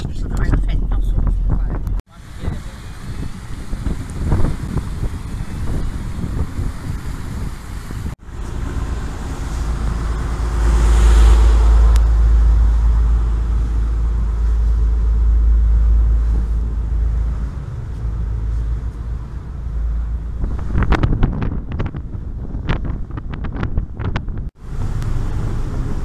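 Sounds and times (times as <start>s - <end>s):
wind buffeting microphone: 0.0s - 26.0s
motor boat engine humming: 0.1s - 26.0s.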